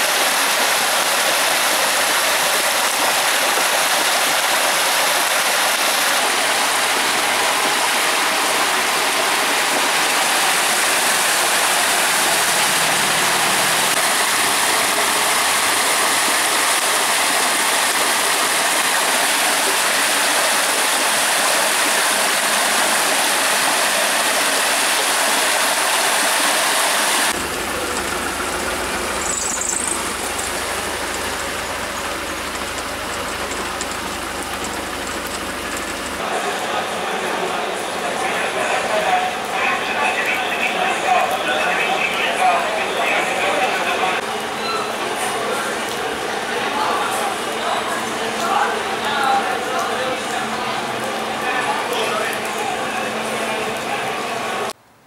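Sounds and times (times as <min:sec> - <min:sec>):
torrential rain pouring: 0:00.0 - 0:54.8.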